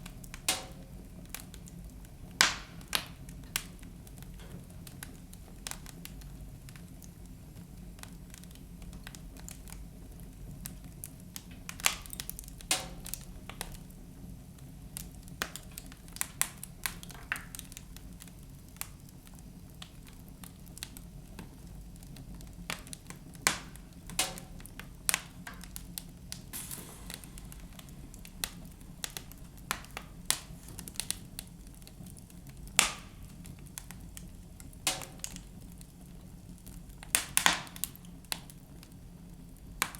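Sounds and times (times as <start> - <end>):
fireplace fire crackling: 0.0 - 39.9
low rumble of flame: 0.0 - 39.9.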